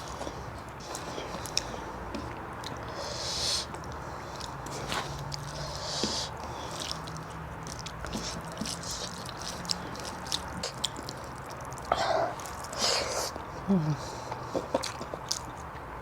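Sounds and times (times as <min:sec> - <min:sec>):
chewing with mouth clicks: 0:00.0 - 0:16.0.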